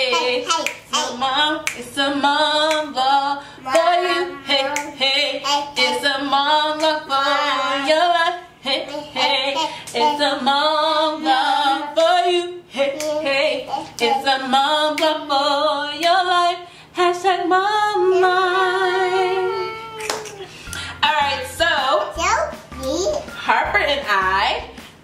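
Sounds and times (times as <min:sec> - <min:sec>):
woman singing a cappella: 0:00.0 - 0:22.2.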